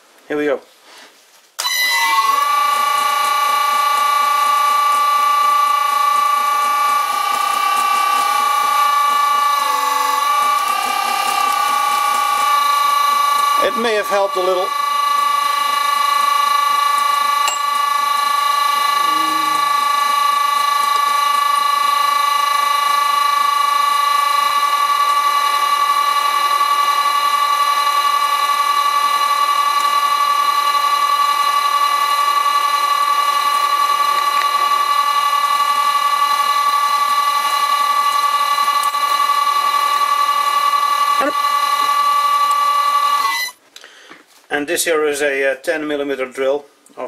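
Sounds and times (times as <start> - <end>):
lathe motor high-pitched whine: 1.6 - 43.6.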